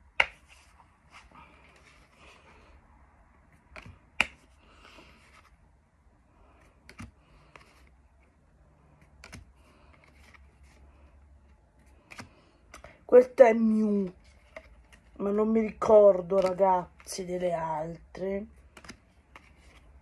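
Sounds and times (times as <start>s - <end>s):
cards sliding and rustling: 0.2s - 2.7s, 3.5s - 5.7s, 6.4s - 13.0s, 13.6s - 17.4s, 18.5s - 20.0s.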